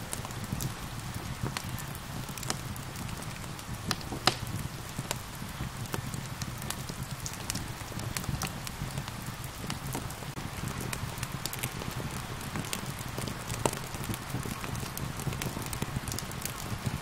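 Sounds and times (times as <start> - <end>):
gentle rain hiss: 0.0 - 17.0
wood fire crackling: 0.0 - 17.0
sharp pops of fire: 0.1 - 17.0.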